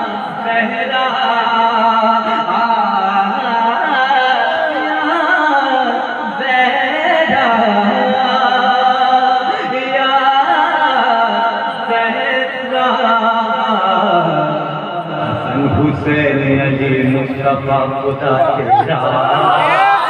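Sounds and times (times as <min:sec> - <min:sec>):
man singing unaccompanied: 0:00.0 - 0:19.8.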